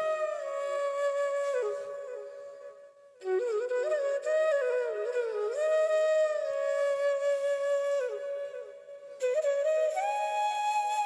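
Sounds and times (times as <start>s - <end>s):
solo flute melody: 0.0s - 11.0s.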